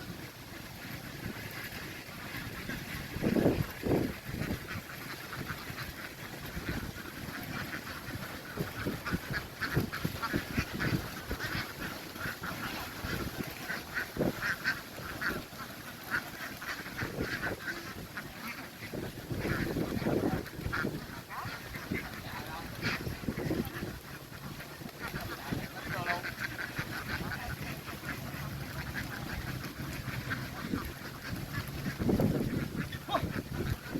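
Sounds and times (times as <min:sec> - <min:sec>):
flock of ducks quacking: 0:00.0 - 0:33.9.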